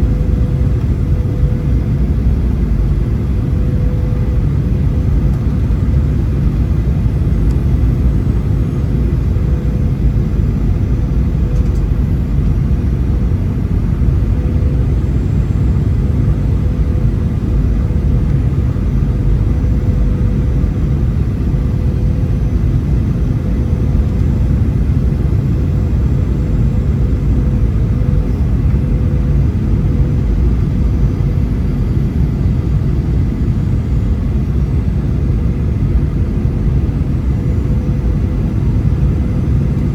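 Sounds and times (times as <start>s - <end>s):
constant cabin hum: 0.0s - 39.9s
engine and airflow rumble: 0.0s - 39.9s.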